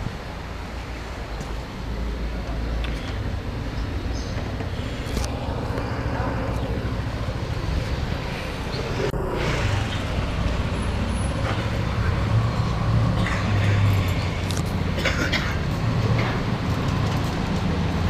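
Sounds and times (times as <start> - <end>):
passing vehicle engines rumbling: 0.0 - 18.0
road noise: 0.0 - 18.0.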